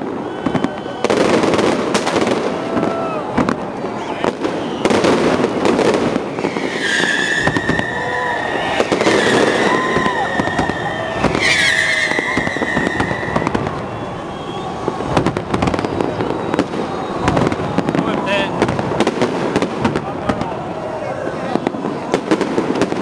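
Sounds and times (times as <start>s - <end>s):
high firework whistle: 0.0s - 19.7s
fireworks bangs and crackles: 0.0s - 23.0s.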